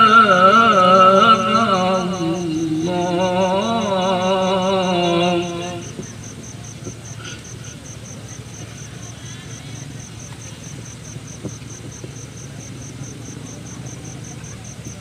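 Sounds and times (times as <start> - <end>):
cricket chirping: 0.0 - 15.0
steady low hum: 0.0 - 15.0.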